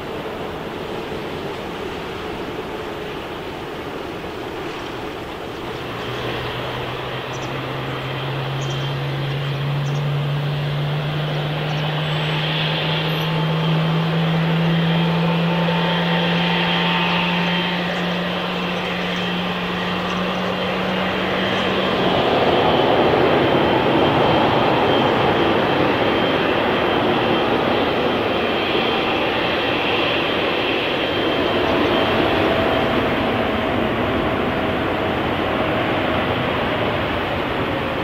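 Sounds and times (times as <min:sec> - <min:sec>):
jet engines rushing: 0:00.0 - 0:38.0.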